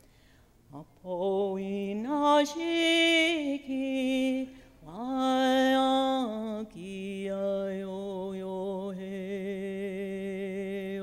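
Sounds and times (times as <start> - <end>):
woman singing unaccompanied: 0.7 - 11.0.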